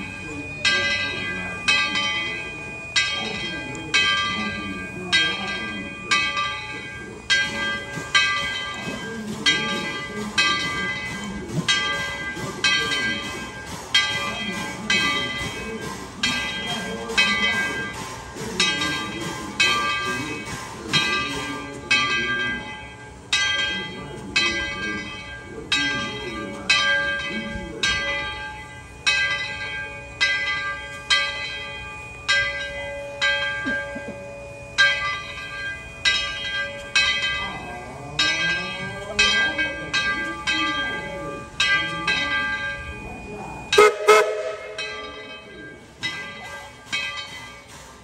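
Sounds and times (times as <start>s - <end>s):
large bell ringing: 0.0s - 48.0s.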